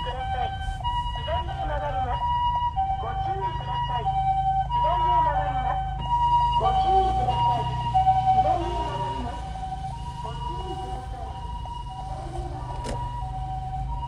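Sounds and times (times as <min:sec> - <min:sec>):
ambulance two-tone siren: 0:00.0 - 0:14.0
traffic engines rumbling: 0:00.0 - 0:14.0.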